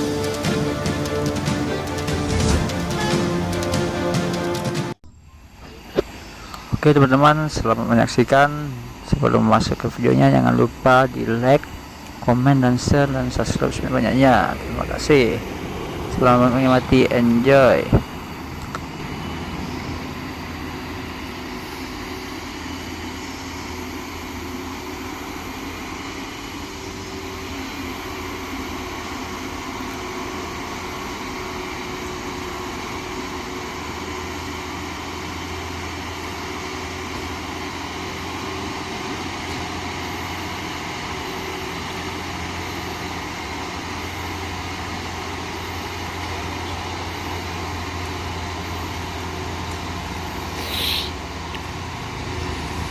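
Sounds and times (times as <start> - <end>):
heavy truck engine labouring: 0.0 - 52.9.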